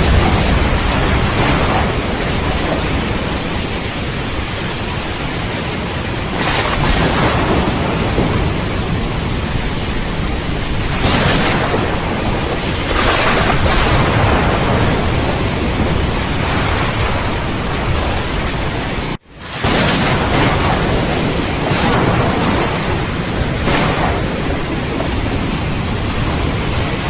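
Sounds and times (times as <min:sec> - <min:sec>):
heavy rain: 0:00.0 - 0:27.0
thunder rumbling: 0:00.0 - 0:27.0.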